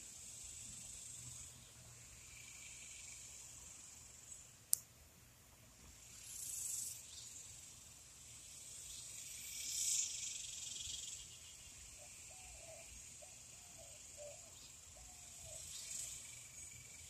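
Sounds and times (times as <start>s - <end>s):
insect chorus shrilling: 0.0s - 4.6s, 5.9s - 17.0s.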